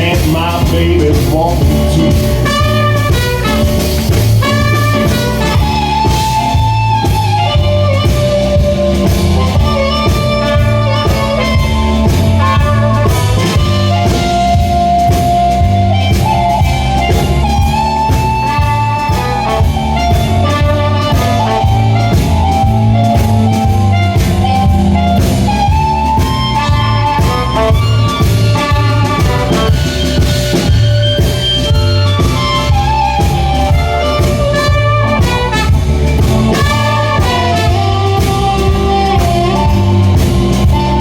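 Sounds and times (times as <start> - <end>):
drum kit steady beat: 0.0 - 41.0
lead instrument solo melody: 0.0 - 41.0
low bass line: 0.0 - 41.0.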